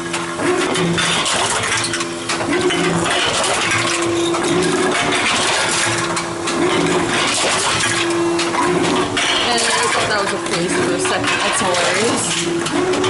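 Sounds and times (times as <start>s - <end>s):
vending machine motor hum: 0.0s - 13.0s
cans and bottles clattering: 0.4s - 13.0s.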